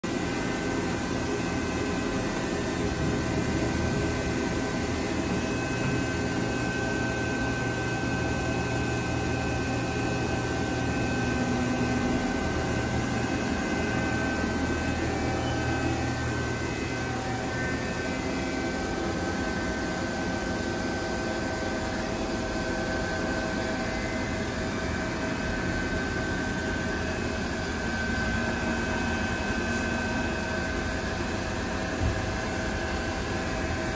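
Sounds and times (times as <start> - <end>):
low machinery drone: 0.1 - 33.9
thin steady whining tones: 0.1 - 33.9.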